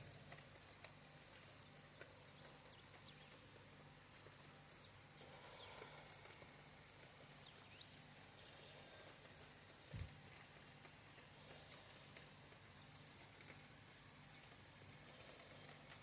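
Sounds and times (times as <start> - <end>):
faint ticks: 0.0 - 16.0
low steady hum: 0.0 - 16.0.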